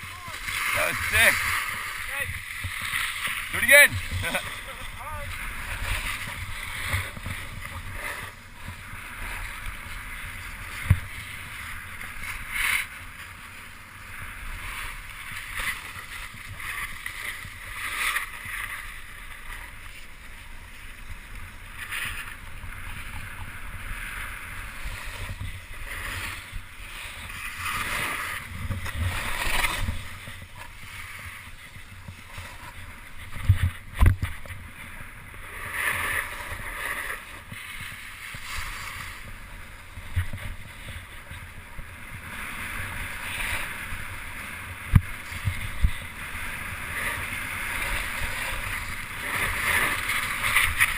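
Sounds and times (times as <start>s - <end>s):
wind on microphone: 0.0s - 13.4s, 20.9s - 50.9s
snowboard scraping over snow: 0.0s - 50.9s.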